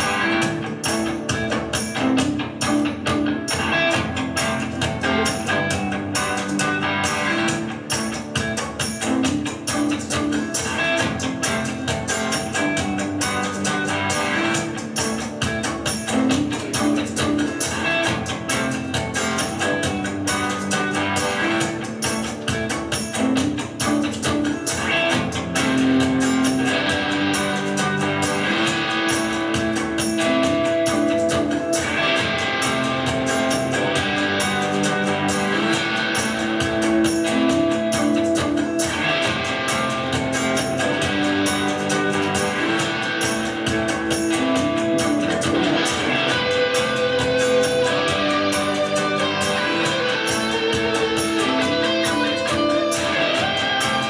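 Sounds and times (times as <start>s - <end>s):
live rock electric guitar: 0.0s - 54.0s.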